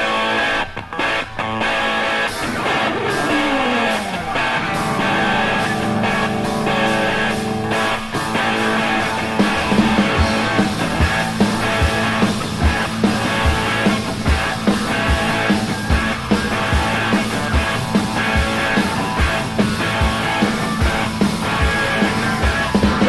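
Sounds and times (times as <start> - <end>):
electric guitar chords and riffing: 0.0 - 23.0.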